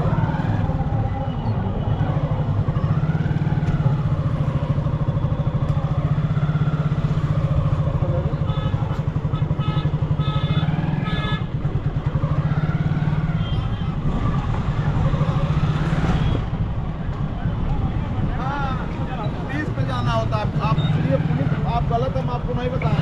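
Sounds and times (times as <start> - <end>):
motorcycle engine running: 0.0 - 19.1.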